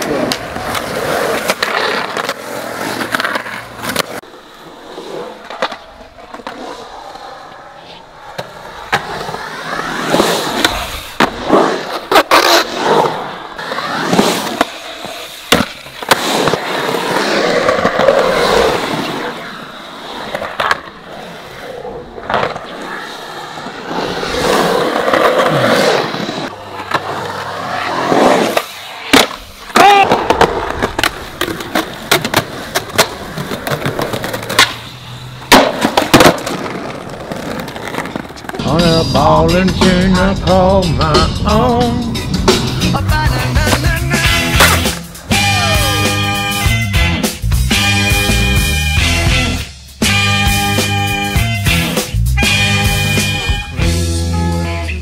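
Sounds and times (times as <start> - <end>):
skateboards popping and landing: 0.0 - 53.7
skateboard wheels rolling on concrete: 0.0 - 55.0.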